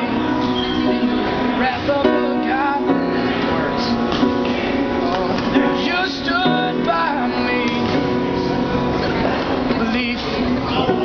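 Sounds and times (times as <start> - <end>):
man singing: 0.0 - 8.4, 9.6 - 11.0
piano chords: 0.0 - 11.0.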